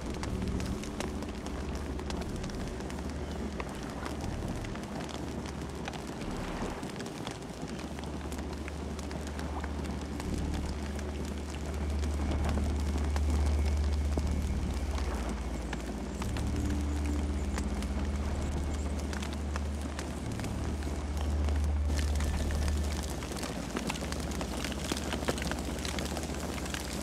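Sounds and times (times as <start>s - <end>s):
campfire crackles and pops: 0.0s - 27.0s
low rumble of flames: 0.0s - 27.0s.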